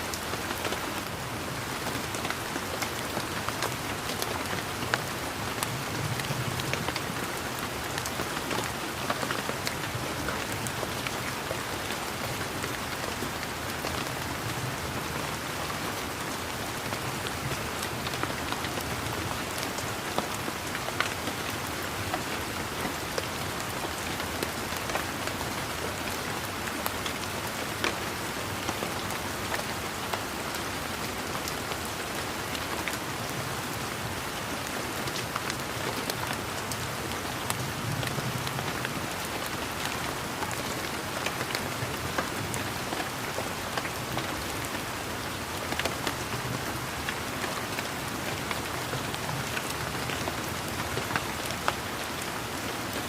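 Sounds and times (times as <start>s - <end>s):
rain on foliage: 0.0s - 53.0s.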